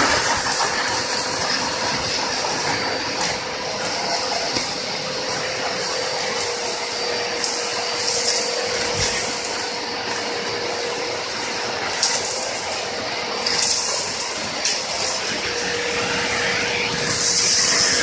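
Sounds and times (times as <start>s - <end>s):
industrial vacuum cleaner running: 0.0s - 18.0s.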